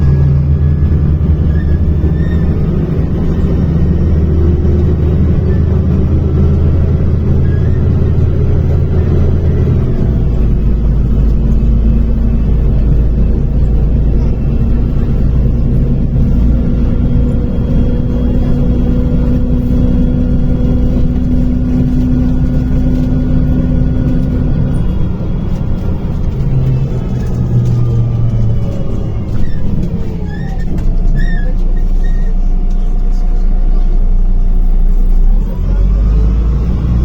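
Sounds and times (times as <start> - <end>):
bus diesel engine drone: 0.0 - 37.0.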